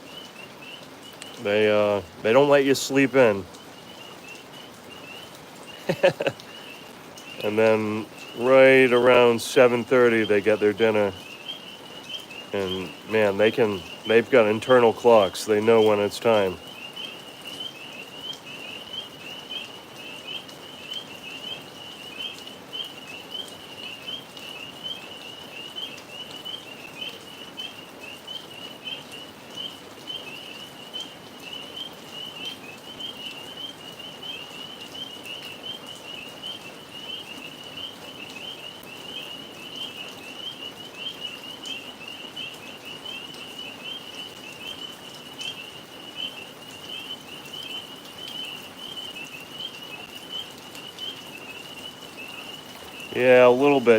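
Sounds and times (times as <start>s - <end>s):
tree frogs trilling: 0.0s - 53.9s.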